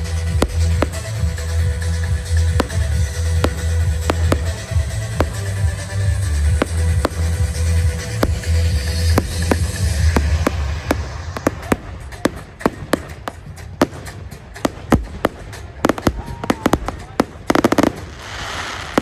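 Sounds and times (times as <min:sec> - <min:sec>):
fireworks banging: 0:00.0 - 0:19.0
fireworks crackling: 0:00.0 - 0:19.0.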